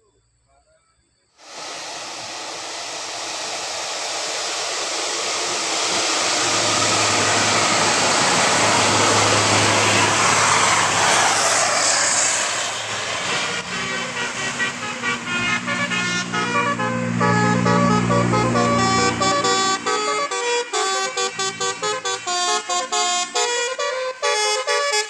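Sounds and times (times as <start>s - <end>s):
bus passing: 1.4s - 25.0s.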